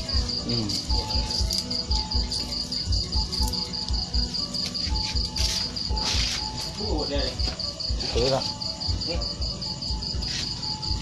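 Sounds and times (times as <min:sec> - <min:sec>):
background music with low beat: 0:00.0 - 0:11.0
crickets chirping: 0:00.0 - 0:11.0.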